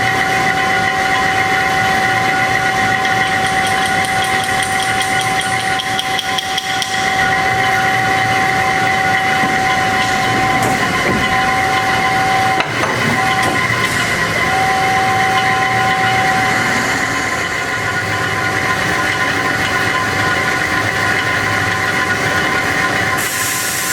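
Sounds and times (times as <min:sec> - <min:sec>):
band saw whining: 0:00.0 - 0:23.9.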